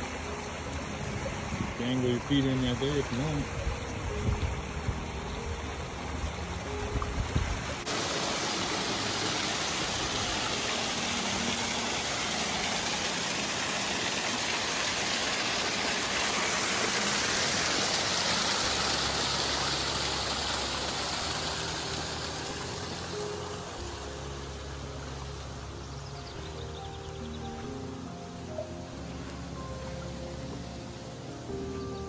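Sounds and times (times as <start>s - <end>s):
water splashing down waterfall: 0.0s - 25.9s.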